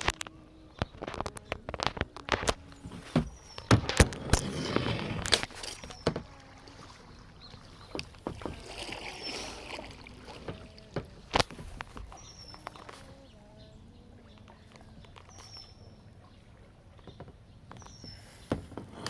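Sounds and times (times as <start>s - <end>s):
paddle strokes splashing: 0.0s - 19.0s.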